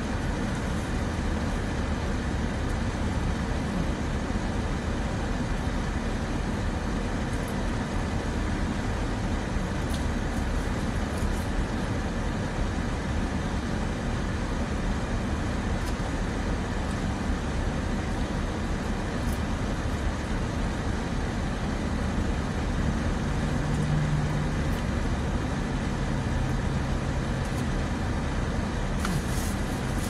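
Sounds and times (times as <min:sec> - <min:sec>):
car engine idling: 0:00.0 - 0:30.0
climate-control fan hiss: 0:00.0 - 0:30.0.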